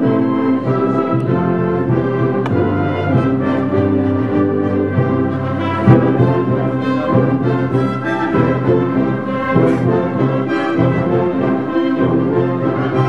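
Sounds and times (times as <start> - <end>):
brass chords: 0.0 - 13.0.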